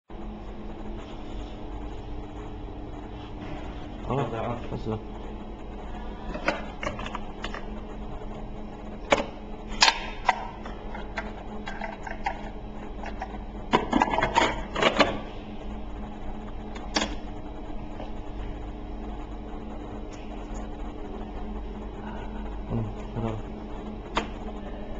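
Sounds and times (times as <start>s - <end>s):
faint steady hum: 0.1s - 24.9s.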